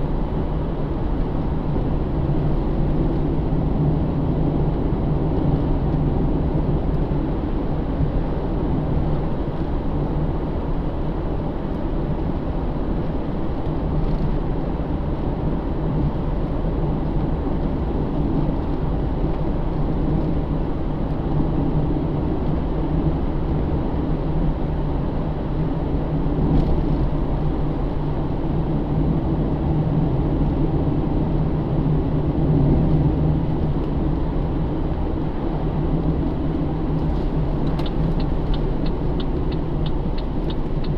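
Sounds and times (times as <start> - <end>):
engine and tyre drone: 0.0 - 40.9.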